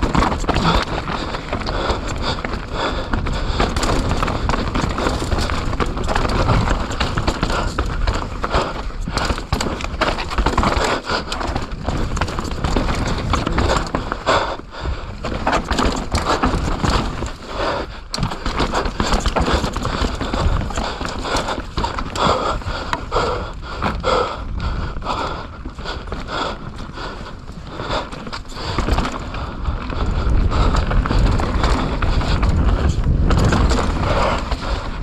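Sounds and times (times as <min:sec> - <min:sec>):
mountain bike clattering over roots: 0:00.0 - 0:35.0.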